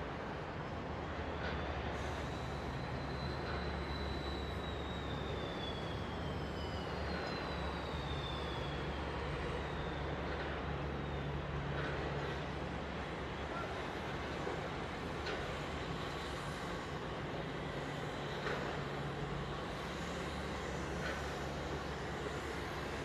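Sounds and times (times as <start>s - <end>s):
faint high whine: 1.6s - 23.0s.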